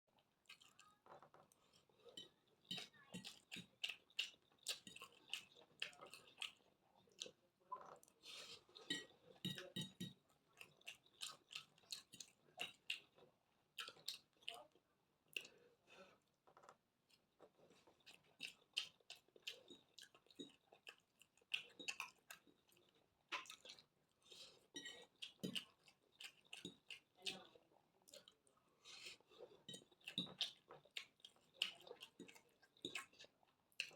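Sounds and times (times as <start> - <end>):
person chewing food: 0.2 - 33.9.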